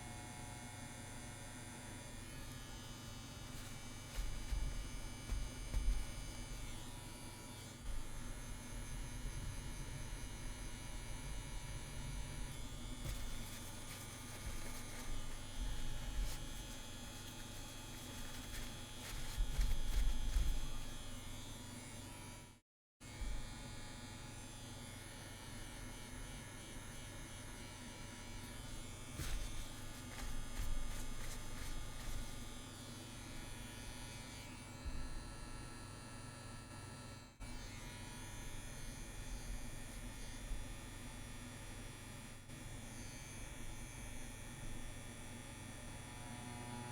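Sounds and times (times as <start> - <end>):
tattoo machine buzzing: 2.2 - 22.4, 23.1 - 45.2.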